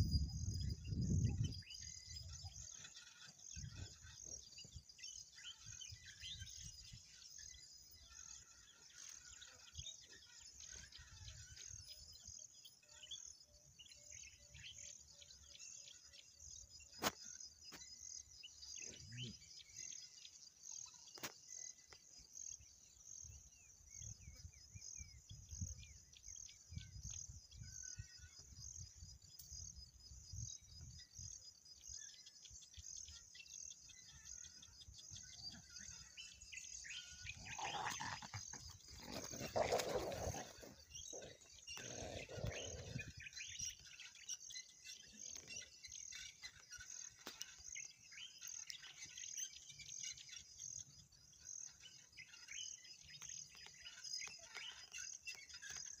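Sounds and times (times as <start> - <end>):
drawn-out insect calls: 0.0 - 56.0
insects chirping in pulsing drone: 0.0 - 56.0.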